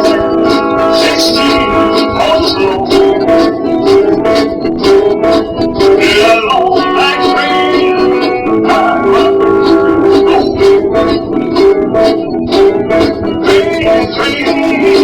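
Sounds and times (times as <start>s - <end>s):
guitar playing: 0.0s - 15.0s
steady drum beat: 0.0s - 15.0s.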